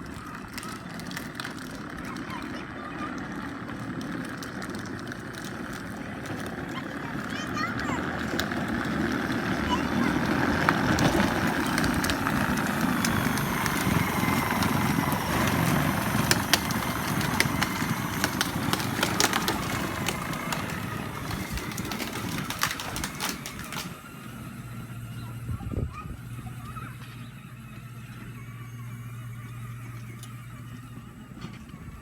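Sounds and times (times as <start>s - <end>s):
electric toy motors whirring: 0.0s - 32.0s
plastic wheels rolling: 0.0s - 32.0s.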